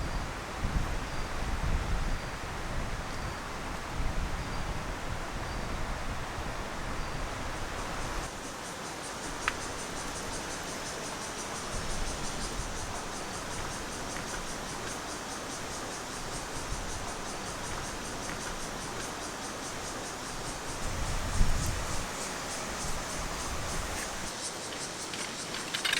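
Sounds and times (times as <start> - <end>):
crickets chirping: 0.0 - 25.9
steady background hiss: 0.0 - 25.9.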